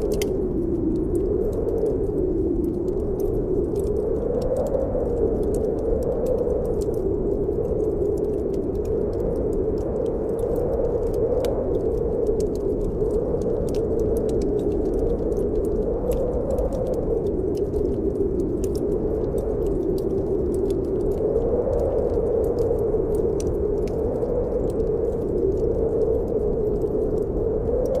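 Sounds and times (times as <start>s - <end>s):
snowstorm wind blowing: 0.0s - 28.0s
wood fire crackling: 0.0s - 28.0s.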